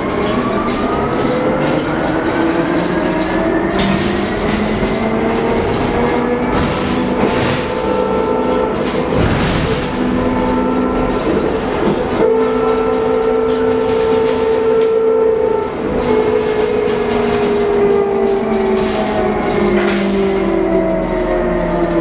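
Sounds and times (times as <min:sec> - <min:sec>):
electric bus motor whining: 0:00.0 - 0:22.0
road noise: 0:00.0 - 0:22.0.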